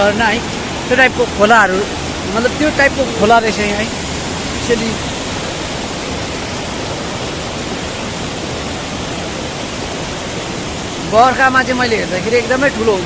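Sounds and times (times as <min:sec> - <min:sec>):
stream rushing over waterfalls: 0:00.0 - 0:13.0.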